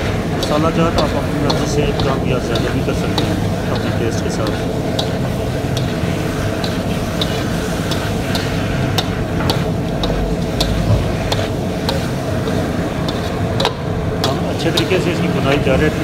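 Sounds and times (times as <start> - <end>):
faint frying sizzle: 0.0 - 16.0
steady low rumble: 0.0 - 16.0
spoon scraping against pan: 0.4 - 15.0.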